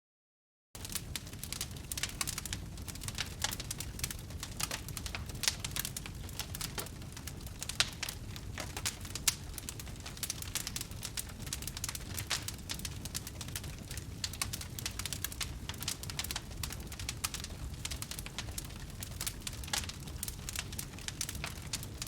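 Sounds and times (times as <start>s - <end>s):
fire pops: 0.8s - 22.0s
rumble of flames: 0.8s - 22.0s
wood fire crackling: 0.8s - 22.0s.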